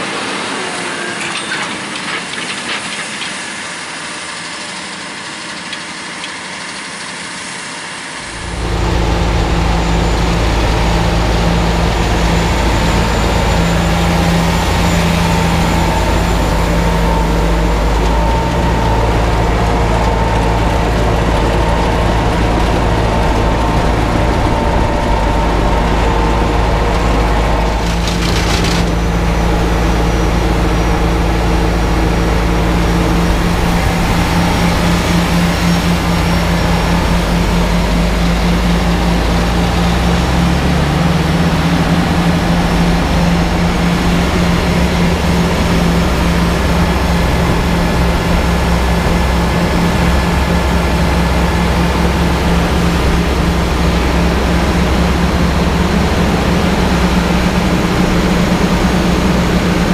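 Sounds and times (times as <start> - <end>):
tractor engines droning: 0.0 - 59.9.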